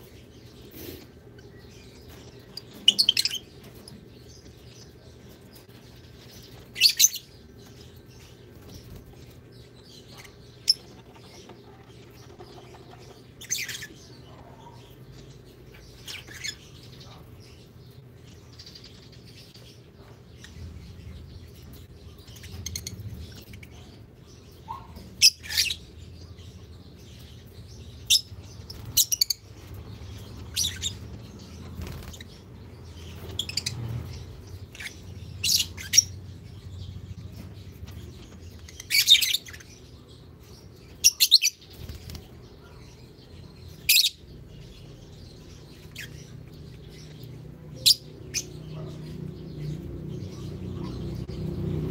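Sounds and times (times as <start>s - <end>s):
lovebirds chirping: 0.0s - 51.9s.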